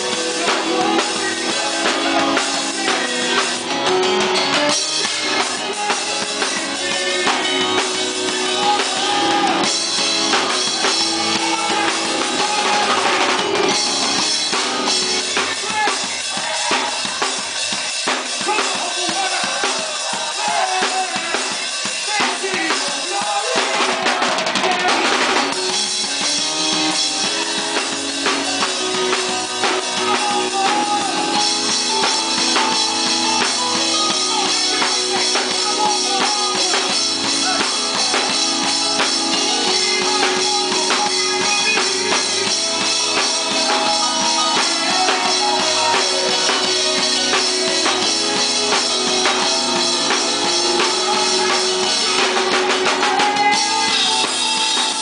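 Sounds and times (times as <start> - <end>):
band instruments holding notes: 0.0 - 55.0
drum kit playing: 0.0 - 55.0.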